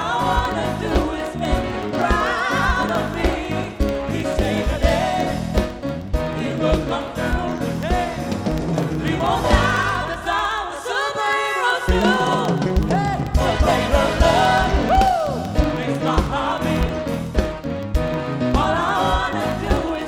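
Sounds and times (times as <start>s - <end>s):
live gospel band playing: 0.0s - 10.5s, 11.9s - 20.0s
singers and backing voices: 0.0s - 20.0s.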